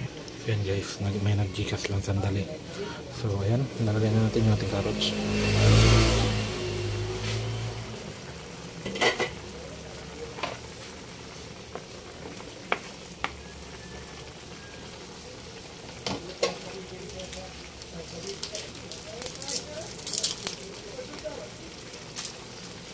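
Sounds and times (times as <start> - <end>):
broth simmering with faint sizzle: 0.0 - 22.9.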